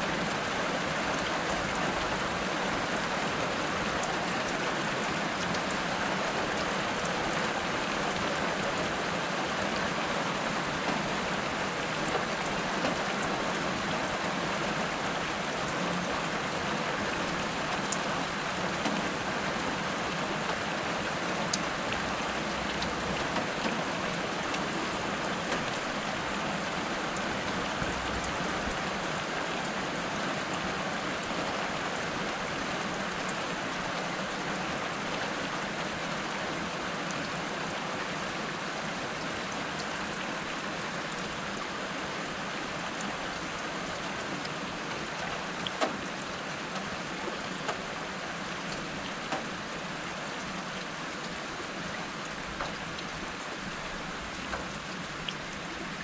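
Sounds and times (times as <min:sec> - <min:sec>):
steady rain on street and roofs: 0:00.0 - 0:56.0
raindrops ticking close by: 0:00.1 - 0:56.0.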